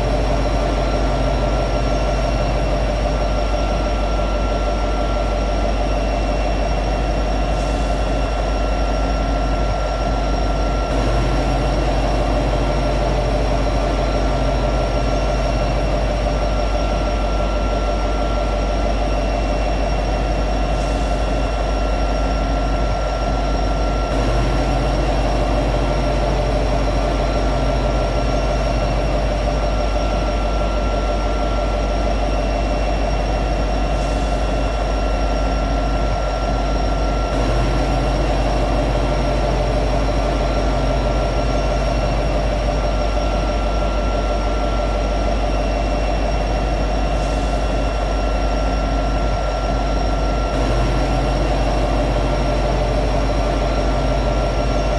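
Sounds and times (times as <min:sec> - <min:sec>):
diesel locomotive idling: 0:00.0 - 0:54.9.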